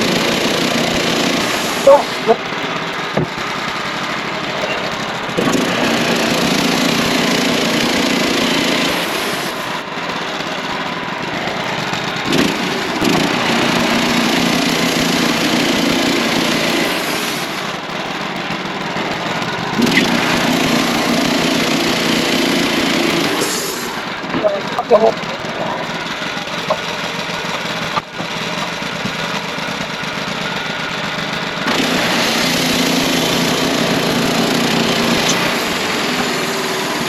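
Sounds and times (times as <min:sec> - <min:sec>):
band blade sawing log: 0:00.0 - 0:02.5, 0:03.1 - 0:09.8, 0:11.5 - 0:37.0
sawmill engine running: 0:00.0 - 0:37.0.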